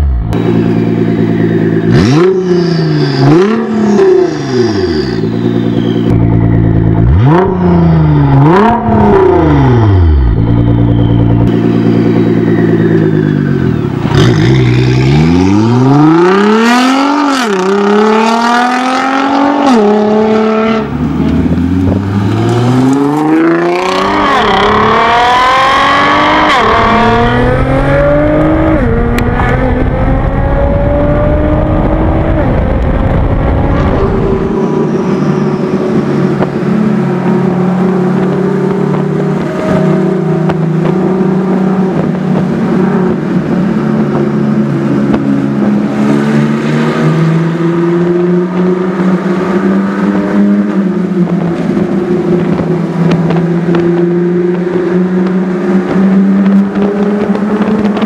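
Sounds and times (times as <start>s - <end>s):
car exhaust accelerating: 0.0s - 58.0s
rushing wind and road noise: 0.0s - 58.0s.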